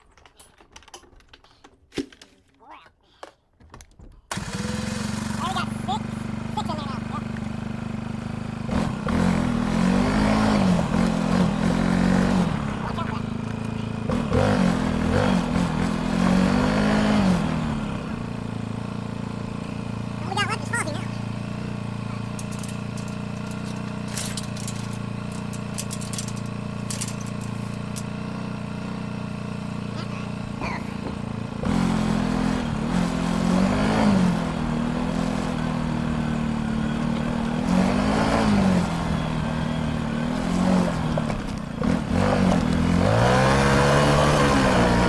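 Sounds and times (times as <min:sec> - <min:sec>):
utility vehicle engine revving: 0:04.3 - 0:45.0.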